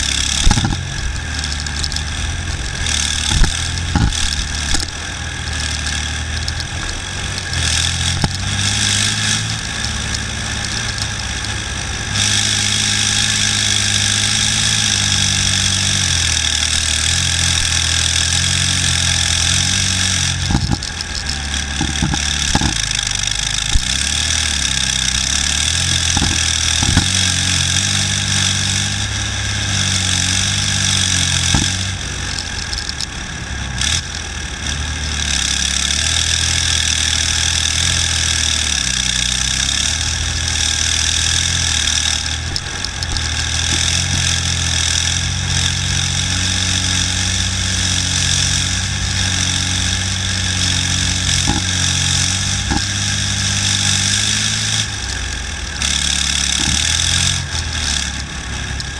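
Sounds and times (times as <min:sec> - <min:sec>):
diesel engine running loud: 0:00.0 - 0:58.9.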